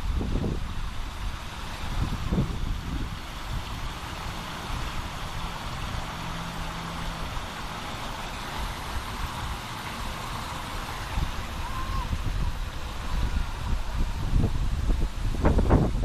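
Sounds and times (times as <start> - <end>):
waterfall rushing: 0.0 - 16.0
wind rumbling on microphone: 0.0 - 16.0.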